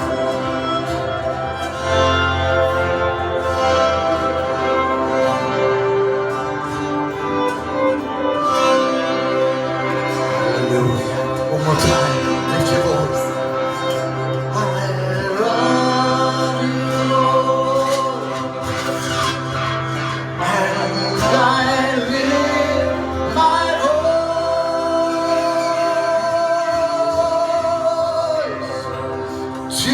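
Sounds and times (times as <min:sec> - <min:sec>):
guitar accompaniment: 0:00.0 - 0:29.9.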